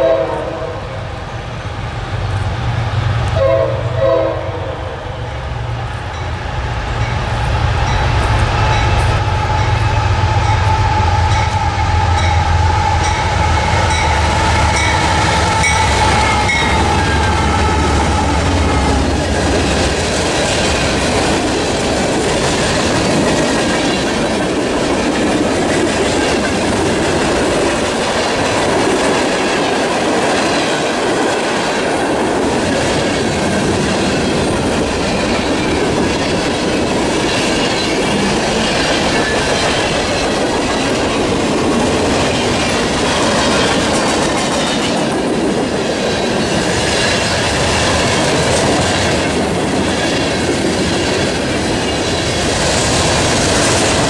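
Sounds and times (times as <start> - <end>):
diesel locomotive droning: 0.0 - 54.0
train wheels on rails: 0.0 - 54.0.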